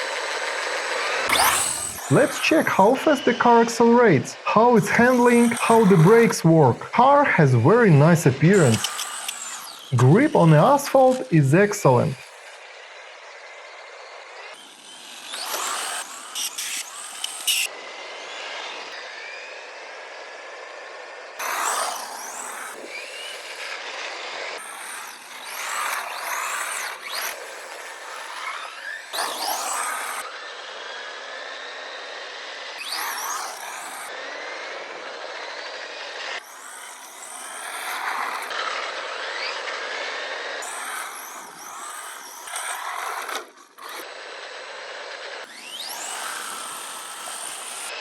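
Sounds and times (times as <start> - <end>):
rc car motor whining: 0.0 - 48.0.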